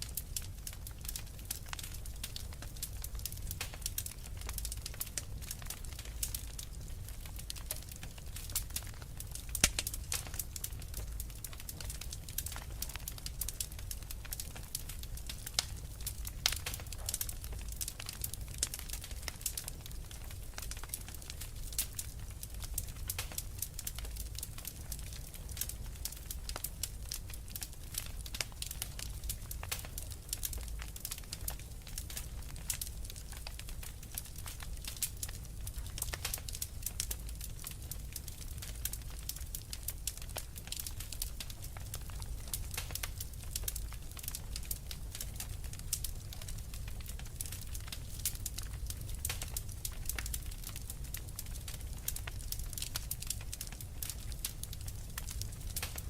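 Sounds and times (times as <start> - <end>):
fire crackling with pops: 0.0 - 56.0.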